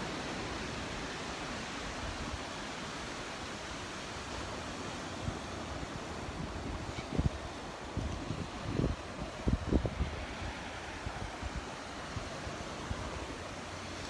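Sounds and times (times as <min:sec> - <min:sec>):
surf washing on shore: 0:00.0 - 0:14.0.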